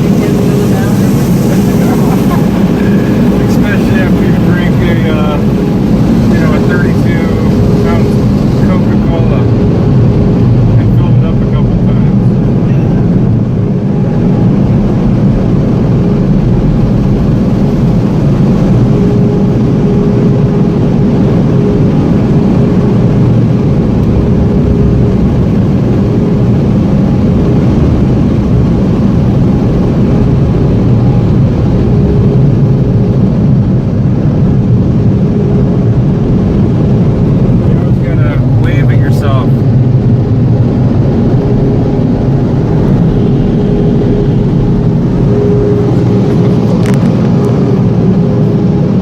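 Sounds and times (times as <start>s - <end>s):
car wash machinery roaring: 0.0s - 49.0s
faint steady hum: 0.0s - 49.0s.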